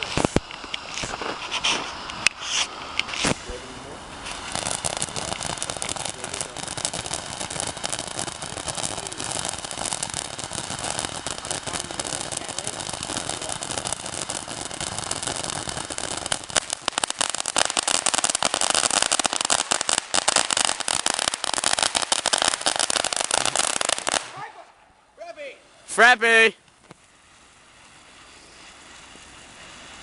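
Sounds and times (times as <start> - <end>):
firework fountain hissing and crackling: 0.0 - 30.0.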